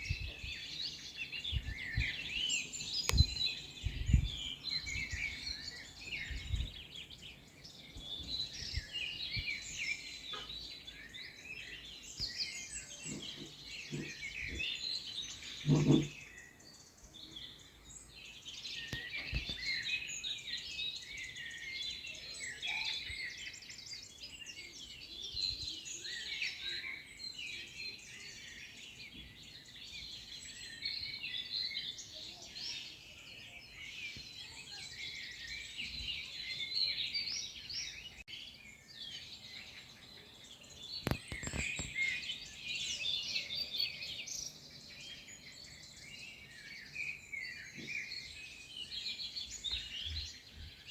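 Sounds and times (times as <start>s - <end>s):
songbirds chirping in chorus: 0.0s - 50.9s.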